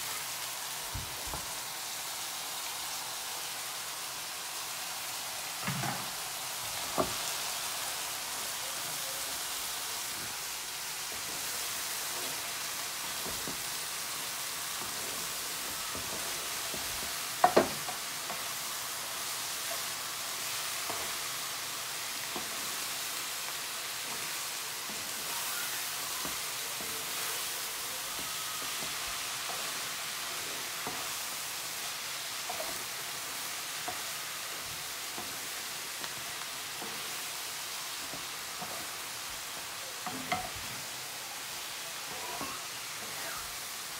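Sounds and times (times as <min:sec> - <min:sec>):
cabbage sizzling in a pan: 0:00.0 - 0:43.9.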